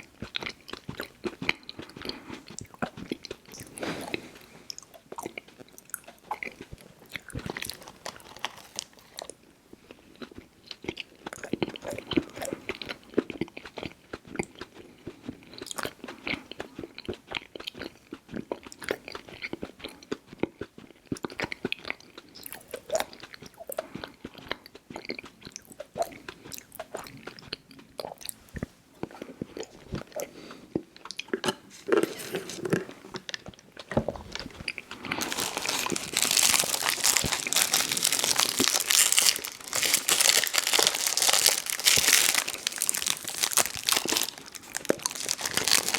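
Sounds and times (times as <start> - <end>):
person chewing: 0.0 - 45.9.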